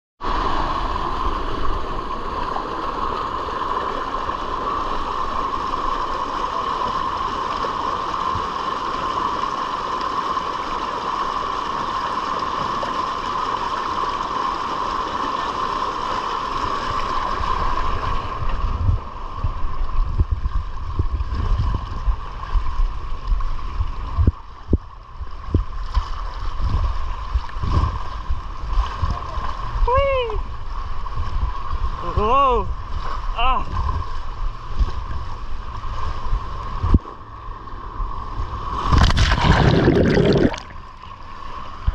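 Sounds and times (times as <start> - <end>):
water rushing and splashing: 0.2 - 41.9.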